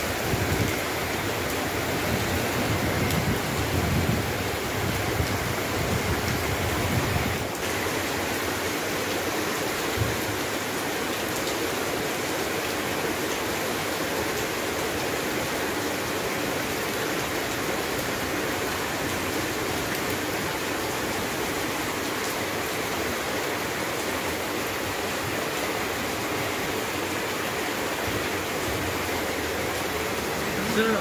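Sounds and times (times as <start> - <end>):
heavy rain on cars and pavement: 0.0 - 31.0.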